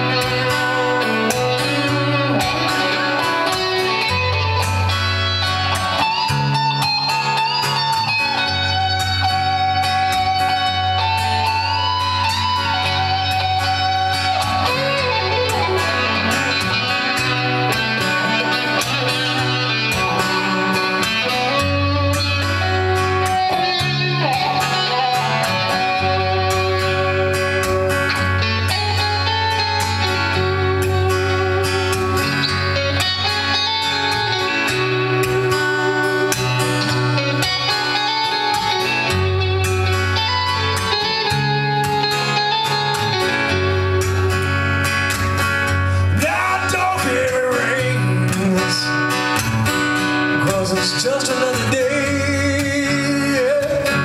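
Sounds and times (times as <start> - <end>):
acoustic guitar playing: 0.0 - 54.0
bass line: 0.0 - 54.0.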